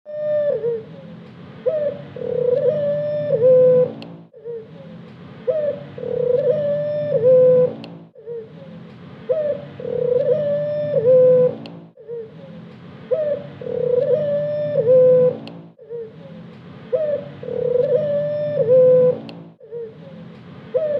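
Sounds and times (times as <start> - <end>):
dove cooing: 0.1 - 20.9.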